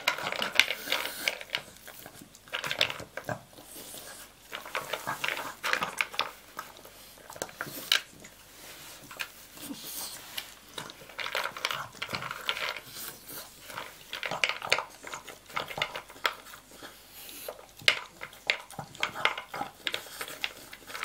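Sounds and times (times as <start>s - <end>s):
dog chewing: 0.0s - 21.0s.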